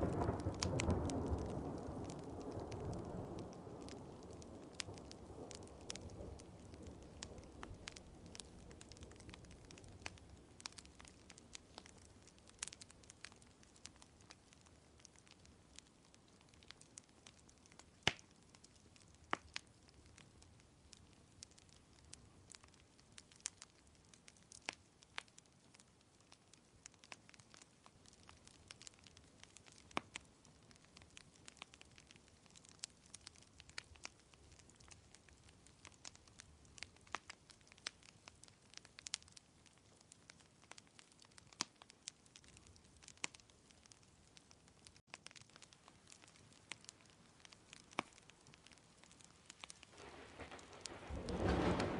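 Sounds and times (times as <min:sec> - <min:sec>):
faint steady hiss: 0:00.0 - 0:51.9
wood fire crackling: 0:00.0 - 0:51.9.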